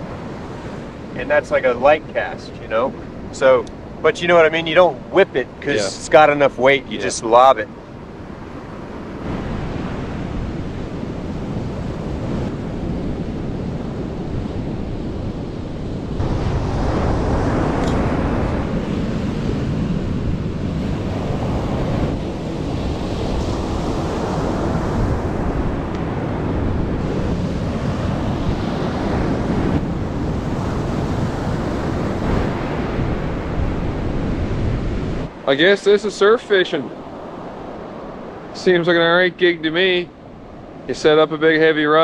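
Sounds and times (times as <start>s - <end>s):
wind buffeting microphone: 0.0s - 6.2s, 7.6s - 35.4s
ocean surf breaking on sand: 0.0s - 42.0s.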